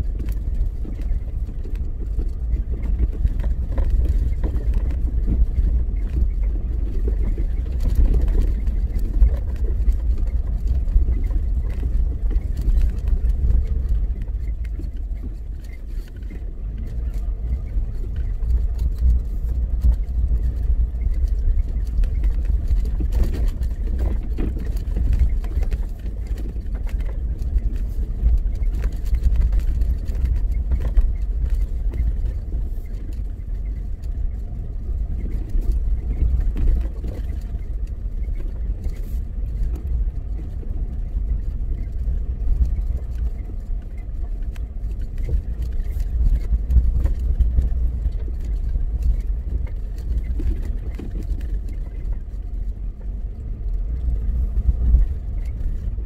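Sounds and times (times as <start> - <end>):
vehicle driving on gravel: 0.0 - 56.0.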